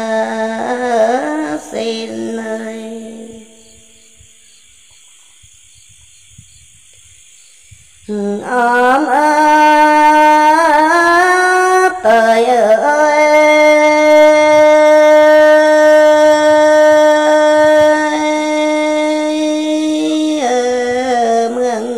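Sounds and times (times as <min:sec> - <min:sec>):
person singing long held notes: 0:00.0 - 0:03.9, 0:08.1 - 0:21.9
faint hiss: 0:00.0 - 0:21.9.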